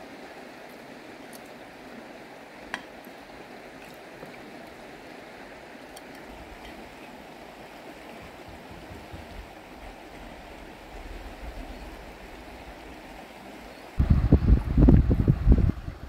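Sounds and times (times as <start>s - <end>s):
river water flowing over stones: 0.0s - 14.0s.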